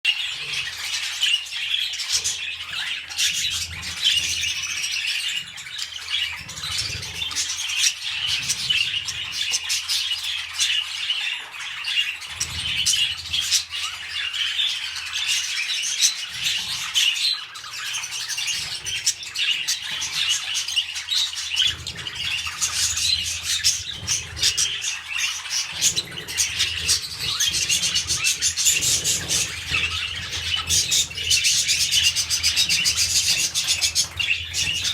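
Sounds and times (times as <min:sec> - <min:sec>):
budgerigars chattering and warbling: 0:00.1 - 0:34.9.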